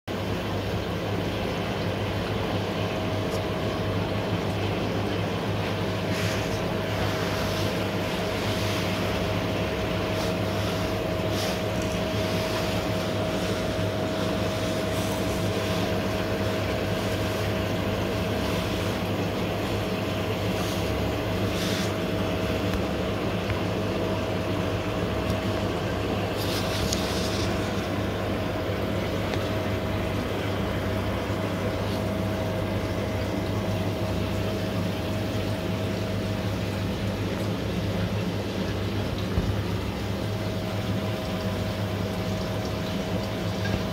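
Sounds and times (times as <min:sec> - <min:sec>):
air bubbling through filter: 0:00.1 - 0:43.9
air pump humming: 0:00.1 - 0:43.9.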